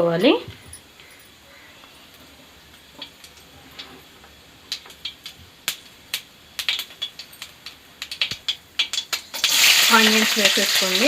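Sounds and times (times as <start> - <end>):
seeds popping in hot oil: 2.1 - 11.0.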